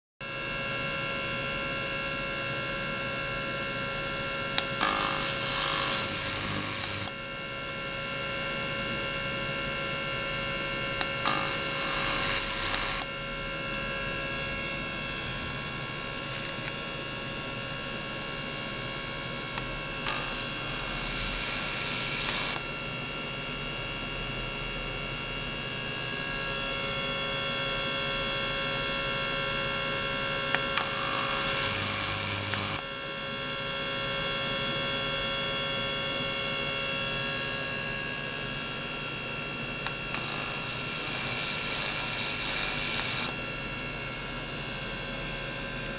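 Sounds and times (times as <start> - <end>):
ultrasonic probe whine: 0.2 - 45.9.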